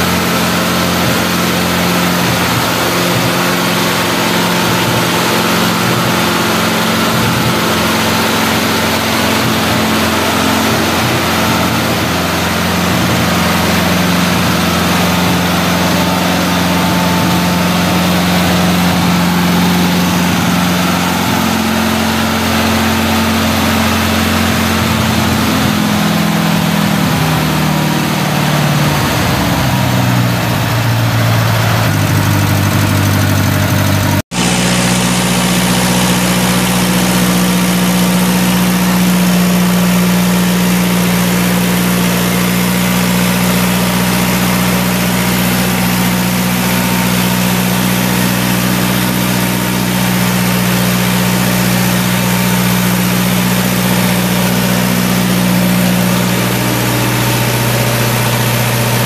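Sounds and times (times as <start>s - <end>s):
concrete saw engine running: 0.0s - 59.0s.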